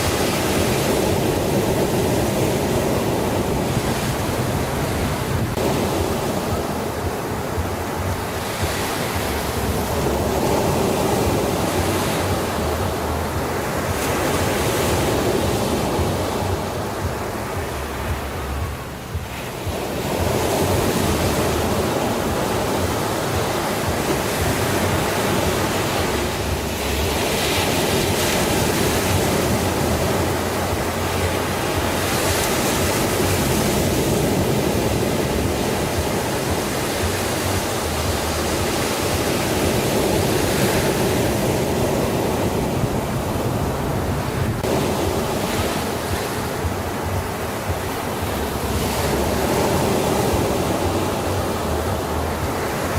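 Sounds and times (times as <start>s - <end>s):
sea waves breaking: 0.0s - 52.9s.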